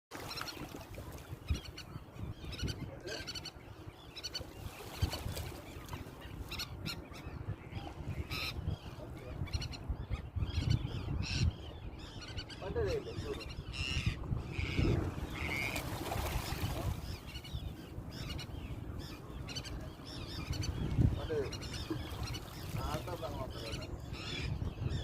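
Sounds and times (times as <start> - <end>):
shorebirds chirping: 0.1 - 25.0.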